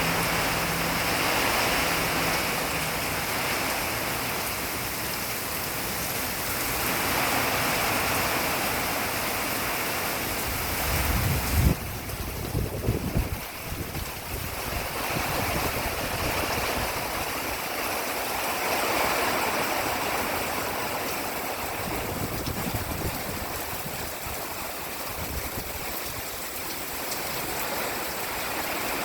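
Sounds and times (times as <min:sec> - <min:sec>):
hard rain pouring: 0:00.0 - 0:29.0
strong wind: 0:00.0 - 0:29.0.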